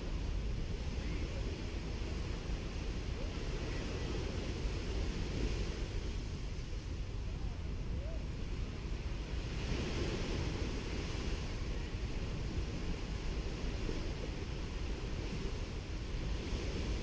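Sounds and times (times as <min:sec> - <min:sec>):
sea waves washing on beach: 0:00.0 - 0:17.0
wind rumble on microphone: 0:00.0 - 0:17.0.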